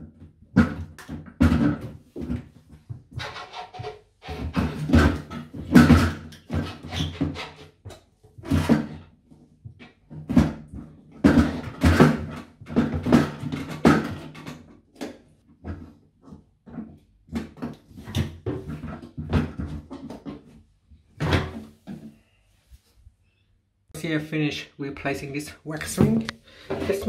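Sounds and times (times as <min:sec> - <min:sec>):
toilet cistern knocking and scraping: 0:00.0 - 0:20.6, 0:21.2 - 0:22.1, 0:25.8 - 0:27.0.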